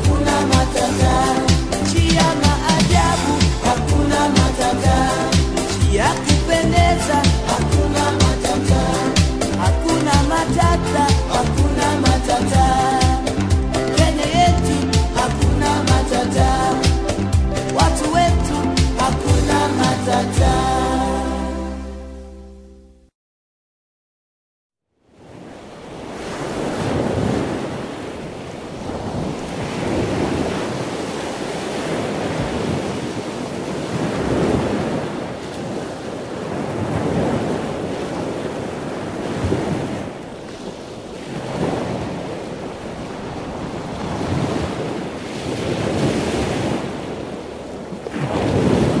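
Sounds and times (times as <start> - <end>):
ocean waves breaking: 0.0 - 21.7, 25.1 - 49.0.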